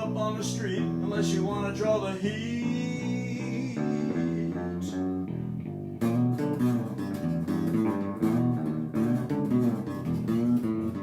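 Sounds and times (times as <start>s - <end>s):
bass guitar: 0.0s - 11.0s
guitar strumming: 0.0s - 11.0s.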